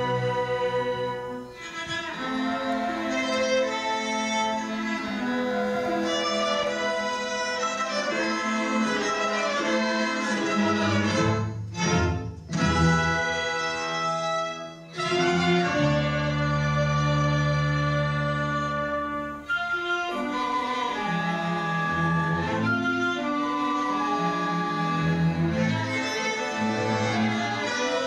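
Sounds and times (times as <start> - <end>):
orchestra with bowed strings: 0.0 - 28.0.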